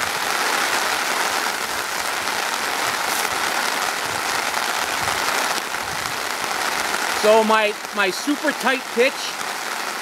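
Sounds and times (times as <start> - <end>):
heavy rain on a tarp: 0.0 - 10.0
water pouring off tarp edge: 0.0 - 10.0.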